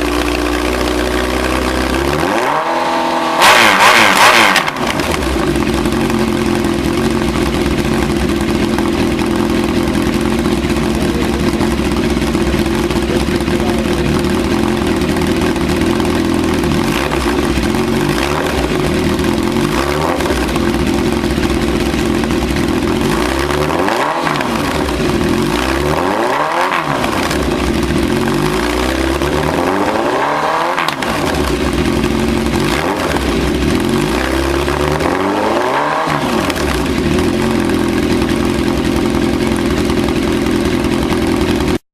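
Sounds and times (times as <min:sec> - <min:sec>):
motorcycle engine revving: 0:00.0 - 0:41.8.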